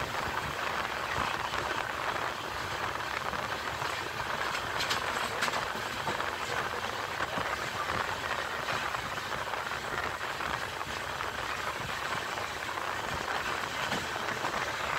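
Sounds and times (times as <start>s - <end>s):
wheel-on-rail noise: 0.0s - 14.9s.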